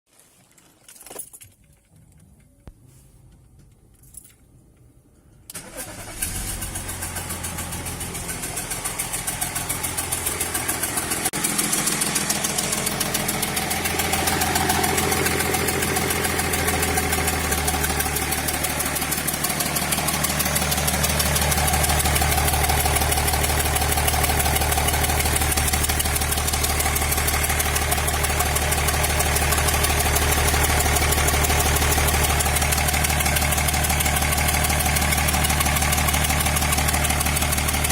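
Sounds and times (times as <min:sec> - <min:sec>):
diesel engine starting and idling: 0:05.5 - 0:37.9.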